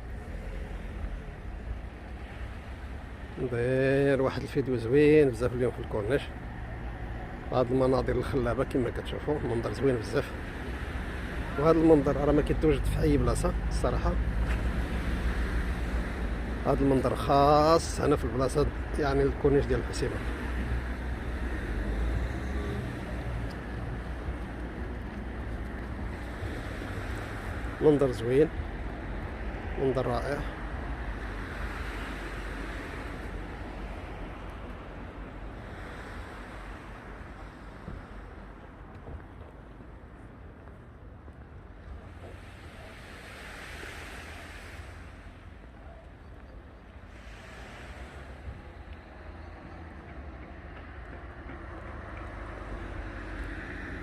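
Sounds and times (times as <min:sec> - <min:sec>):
sea waves washing in: 0:00.0 - 0:38.9, 0:41.6 - 0:50.7.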